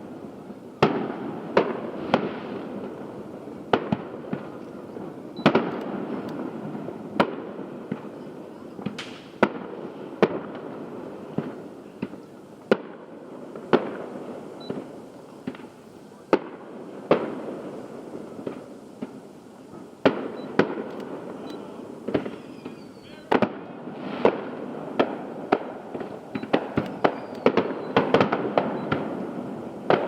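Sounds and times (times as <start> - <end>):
firework shells bursting: 0.0 - 30.0.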